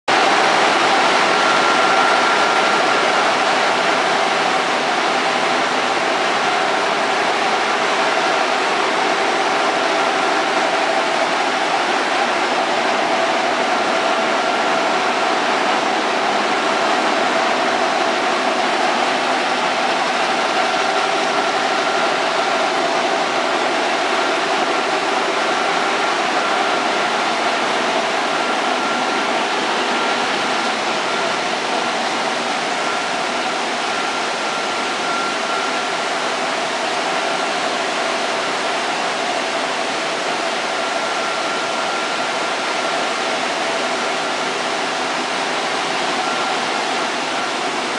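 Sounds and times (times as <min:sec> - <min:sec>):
flour mill machinery running: 0:00.1 - 0:47.9.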